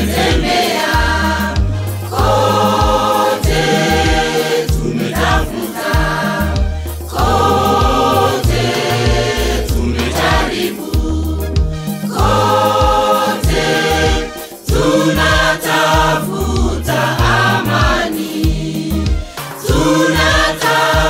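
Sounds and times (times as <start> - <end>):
deep bass line with beat: 0.0 - 20.4
choir singing in harmony: 0.0 - 21.0.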